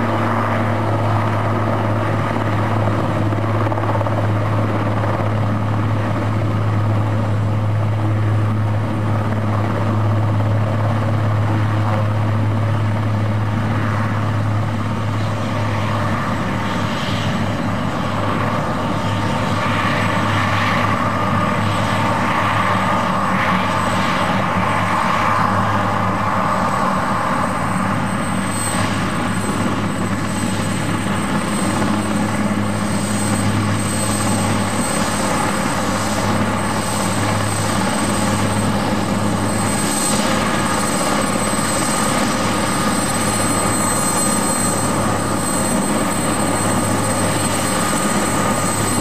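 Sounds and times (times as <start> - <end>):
helicopter rotor and turbines roaring: 0.0 - 49.0
turbine whine: 0.0 - 49.0.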